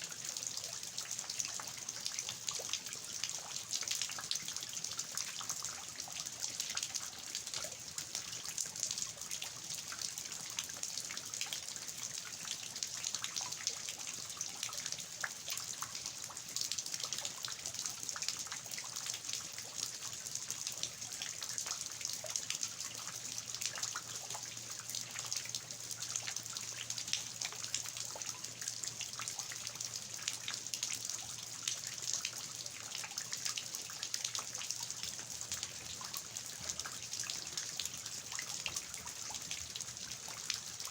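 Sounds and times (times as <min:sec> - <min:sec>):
water dripping from eaves: 0:00.0 - 0:40.9.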